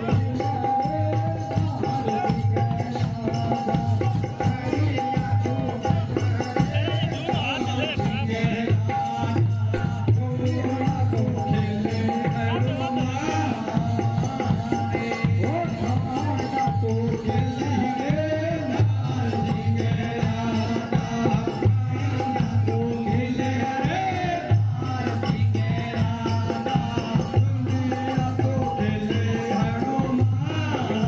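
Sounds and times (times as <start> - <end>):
dhol drum beating: 0.0 - 31.0
man singing through loudspeakers: 0.0 - 31.0.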